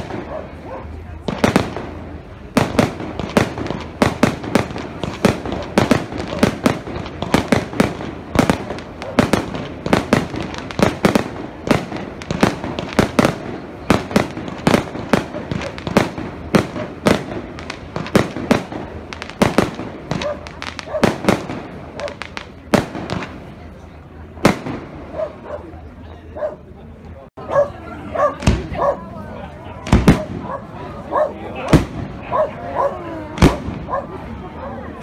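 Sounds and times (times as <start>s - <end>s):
fireworks bangs: 0.0s - 26.0s, 28.3s - 29.2s, 29.8s - 34.5s.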